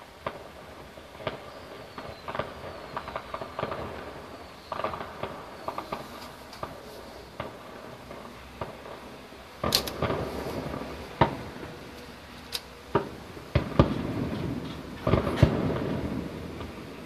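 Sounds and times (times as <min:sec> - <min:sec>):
distant fireworks booming: 0:00.0 - 0:17.0.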